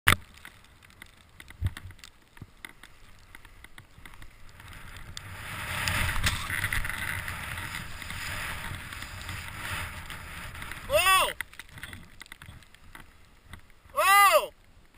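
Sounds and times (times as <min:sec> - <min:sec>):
knocks and scrapes: 0:00.4 - 0:13.7
snow sliding under a rider: 0:00.6 - 0:14.9.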